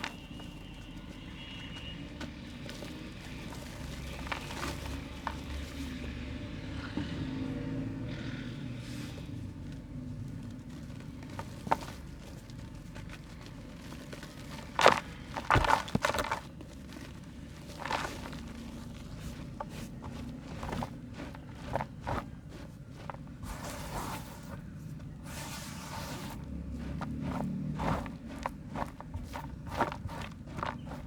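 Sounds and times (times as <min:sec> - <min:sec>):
dried mud crumbling: 0:00.0 - 0:07.0, 0:09.2 - 0:31.0.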